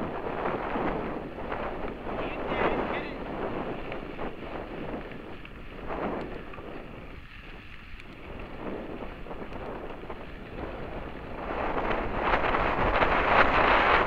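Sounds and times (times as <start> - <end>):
tyres rumbling on dirt trail: 0.0 - 14.0
wind buffeting microphone: 0.0 - 14.0.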